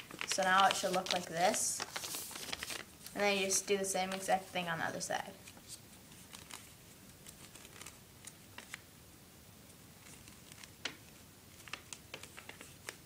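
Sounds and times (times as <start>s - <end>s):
paper crinkling: 0.0s - 4.7s, 5.4s - 8.8s, 10.0s - 13.0s.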